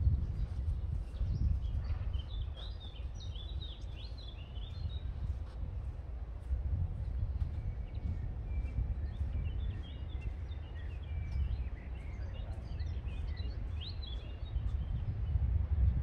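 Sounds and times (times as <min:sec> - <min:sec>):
small birds chirping: 0:00.0 - 0:05.4, 0:07.4 - 0:15.4
wind rumbling on microphone: 0:00.0 - 0:16.0.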